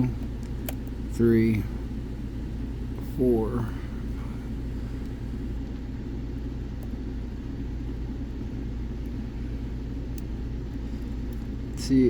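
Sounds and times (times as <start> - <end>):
constant hum: 0.0 - 12.0
low background rumble: 0.0 - 12.0.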